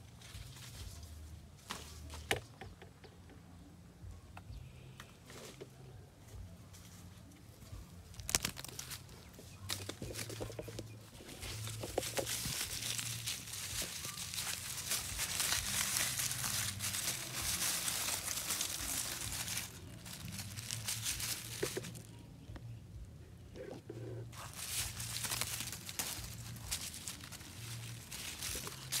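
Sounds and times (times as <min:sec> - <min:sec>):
dry leaves crackling and rustling: 0:00.0 - 0:02.3, 0:06.5 - 0:22.5, 0:24.0 - 0:29.0.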